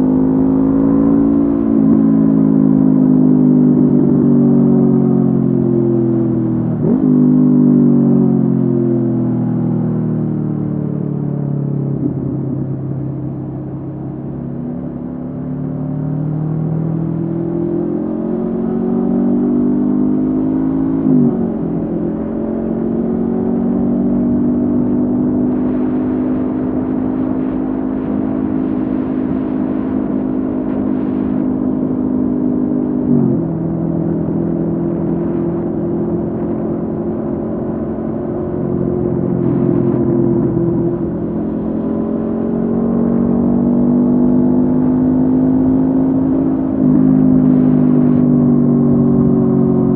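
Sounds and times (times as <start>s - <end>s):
motorcycle engine riding: 0.0s - 49.9s.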